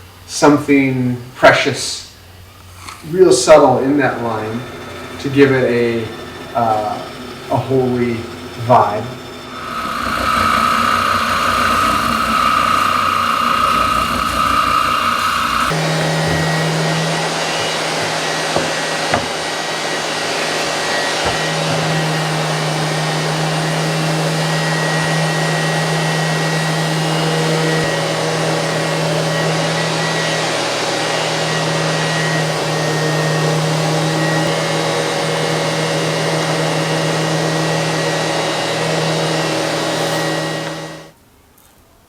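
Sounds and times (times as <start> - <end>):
electric power tool whooshing: 2.6 - 41.1
low motor hum: 3.0 - 41.1.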